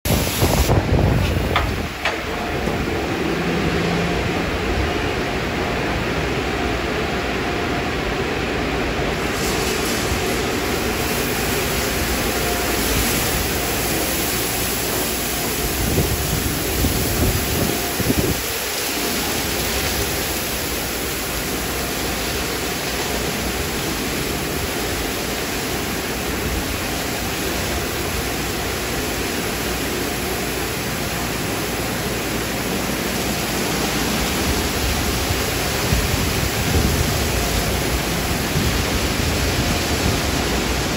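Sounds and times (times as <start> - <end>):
car wash water spraying: 0.0 - 40.9.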